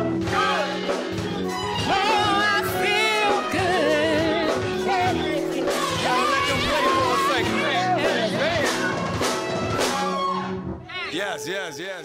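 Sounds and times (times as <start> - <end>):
live band playing: 0.0 - 11.6.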